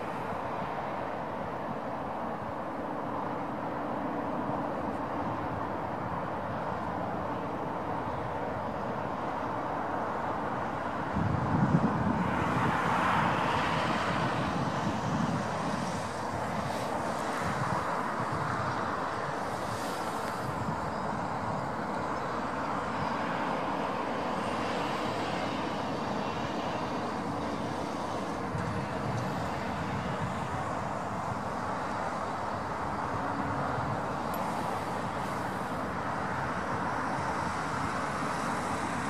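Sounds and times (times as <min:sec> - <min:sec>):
jet engine hiss: 0:00.0 - 0:39.0
jet engines rumble and whine: 0:00.0 - 0:39.0.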